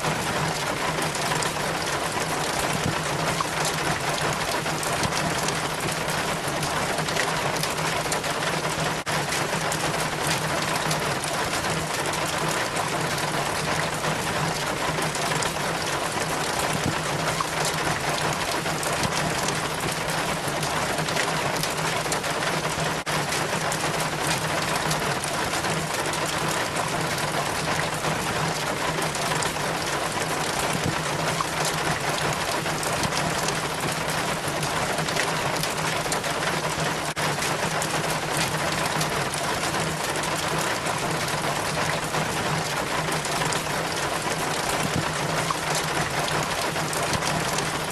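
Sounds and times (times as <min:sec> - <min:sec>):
rainwater trickling down rain chain: 0:00.0 - 0:47.9.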